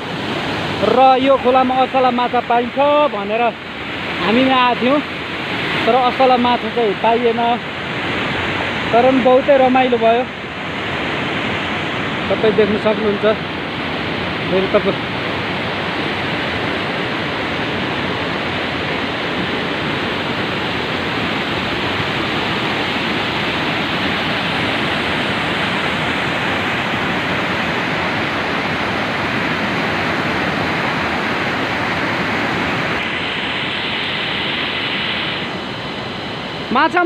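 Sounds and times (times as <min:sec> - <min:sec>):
mountain stream rushing over boulders: 0:00.0 - 0:37.0.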